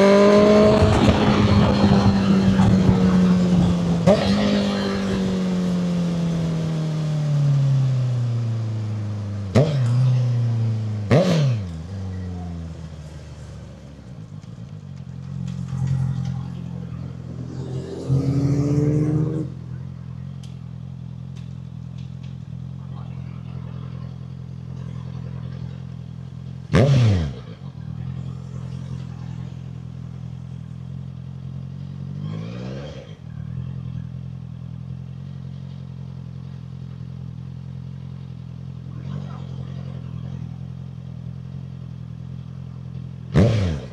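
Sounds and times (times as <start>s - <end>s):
motorcycle engine idling: 0.0s - 43.9s
motorcycle engine revving: 0.0s - 43.9s.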